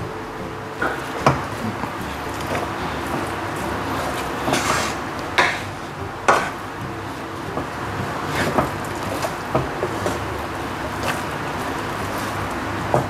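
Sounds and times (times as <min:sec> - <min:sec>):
wooden spatula scraping frying pan: 0:00.8 - 0:13.0.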